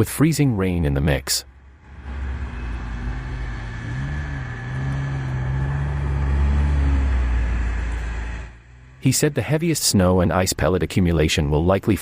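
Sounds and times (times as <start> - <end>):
vehicle engine running: 1.4 - 11.4.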